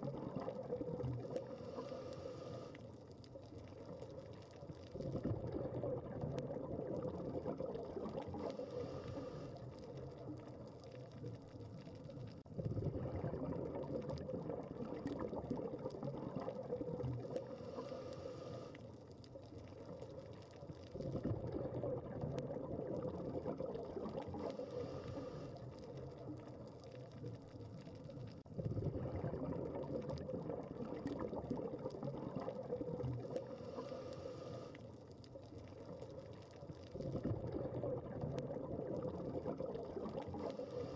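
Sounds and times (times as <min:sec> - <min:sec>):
underwater bubbling and gurgling: 0:00.0 - 0:40.9.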